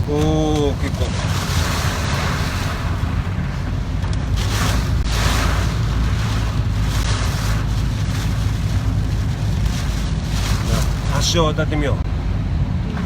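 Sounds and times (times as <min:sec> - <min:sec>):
rain hissing: 0:00.0 - 0:11.9
car rumbling: 0:00.0 - 0:13.0.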